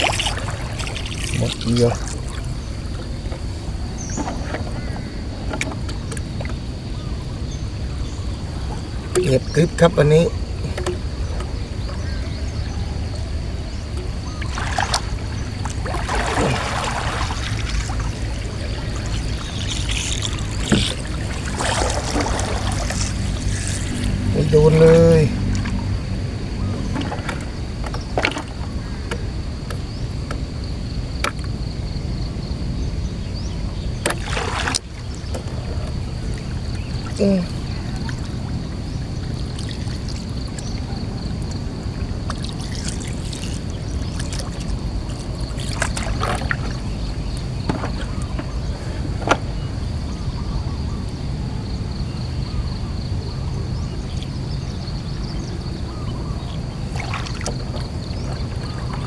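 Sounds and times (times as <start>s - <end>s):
water trickling: 0.0s - 29.4s, 34.0s - 49.0s, 52.2s - 59.0s
boat motor low hum: 0.0s - 59.0s.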